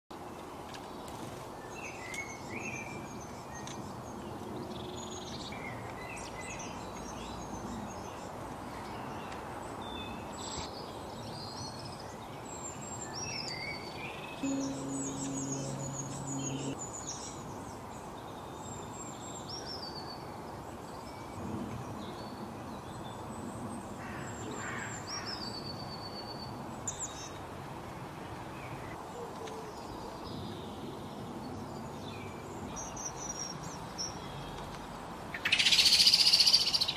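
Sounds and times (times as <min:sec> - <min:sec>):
songbirds chirping: 0:00.1 - 0:36.9.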